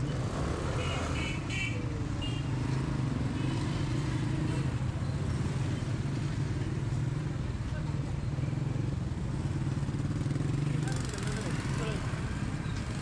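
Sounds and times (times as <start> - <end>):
vehicle engines humming: 0.0 - 13.0.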